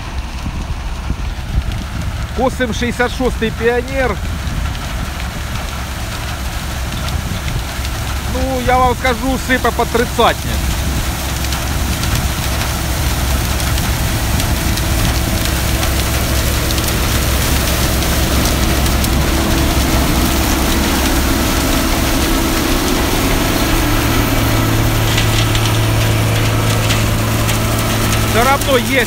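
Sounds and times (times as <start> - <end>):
combine harvester running: 0.0 - 29.0
low hum: 0.0 - 29.0.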